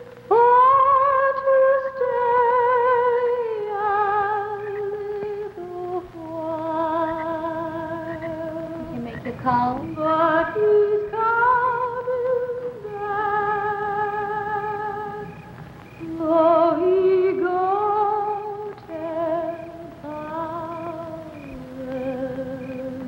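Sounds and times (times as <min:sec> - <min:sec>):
woman singing wordless melody: 0:00.0 - 0:23.0.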